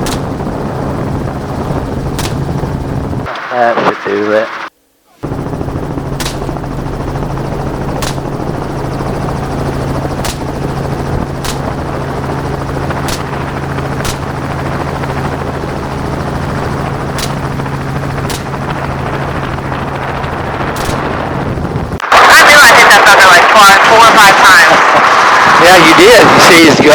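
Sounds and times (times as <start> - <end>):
helicopter engine and rotor drone: 0.0 - 26.9.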